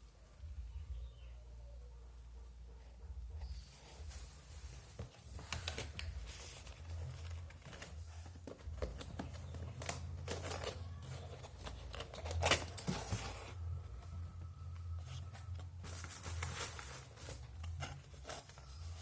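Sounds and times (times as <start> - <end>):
packaging rustling and crinkling: 3.7 - 19.0.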